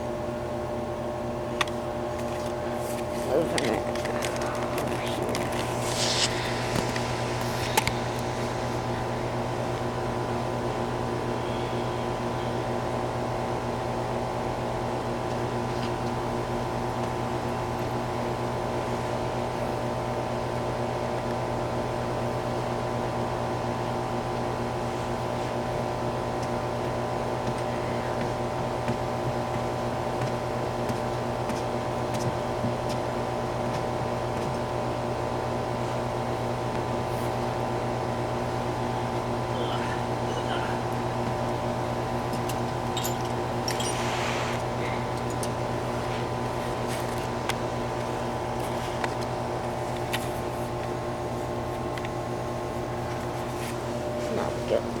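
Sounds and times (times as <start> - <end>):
steady machine hum: 0.0 - 32.6, 33.2 - 55.0.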